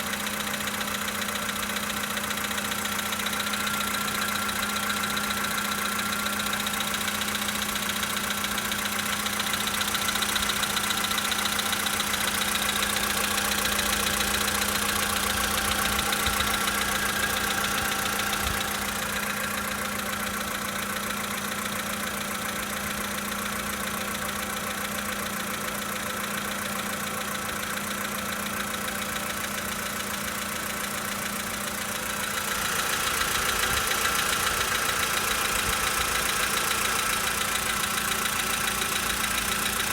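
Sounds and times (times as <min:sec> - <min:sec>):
car engine idling: 0:00.0 - 0:39.9
rapid engine knocking: 0:00.0 - 0:39.9.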